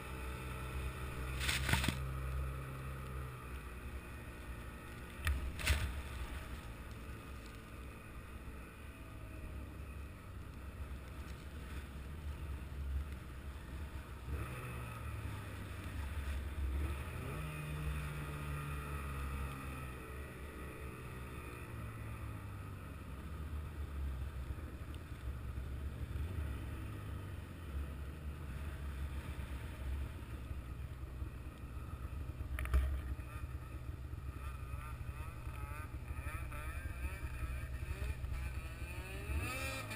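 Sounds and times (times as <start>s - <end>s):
engine running and revving: 0.0s - 39.9s.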